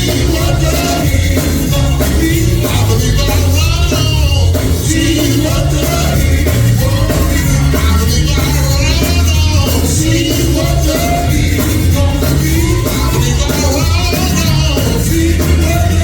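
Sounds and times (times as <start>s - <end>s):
church singing with band: 0.0s - 16.0s
steady bass line: 0.0s - 16.0s.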